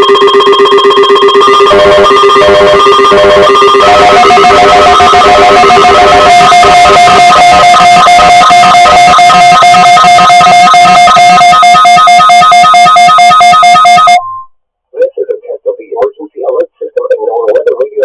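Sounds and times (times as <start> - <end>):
electronic alert alarms beeping: 0.0 - 14.5.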